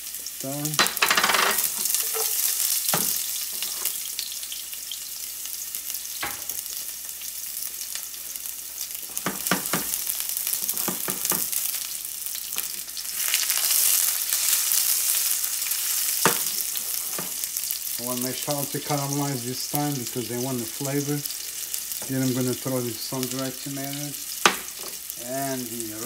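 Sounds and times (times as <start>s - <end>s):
shallots sizzling in a pan: 0.0s - 26.0s.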